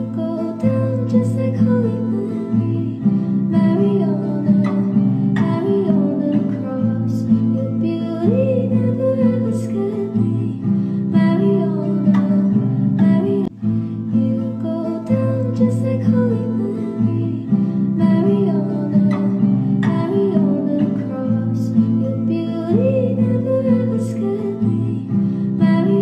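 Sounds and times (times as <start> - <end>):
acoustic guitar playing: 0.0 - 26.0
soft singing voice: 0.0 - 26.0.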